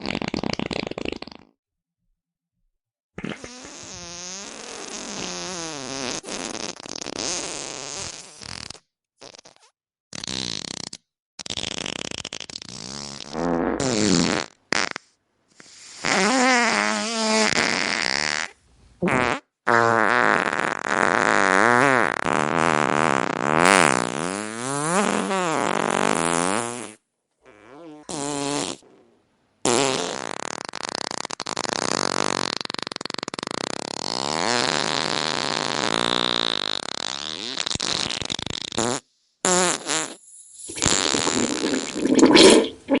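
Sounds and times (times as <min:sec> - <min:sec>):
fart sounds: 0:00.0 - 0:01.6, 0:03.2 - 0:43.0.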